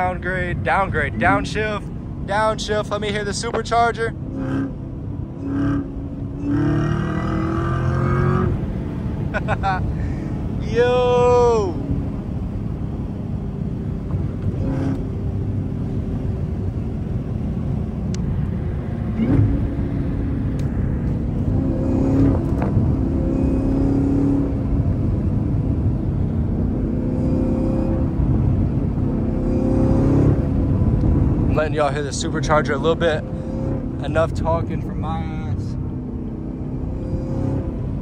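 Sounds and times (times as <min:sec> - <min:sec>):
supercharger whine: 0:00.0 - 0:38.0.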